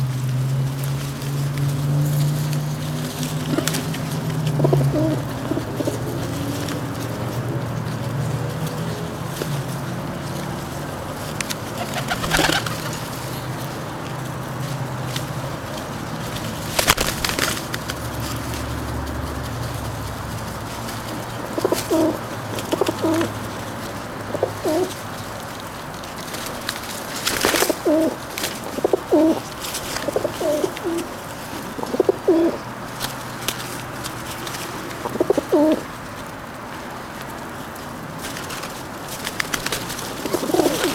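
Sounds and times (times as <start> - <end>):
pigeons cooing: 2.1 - 14.0, 14.9 - 36.4, 37.0 - 40.9.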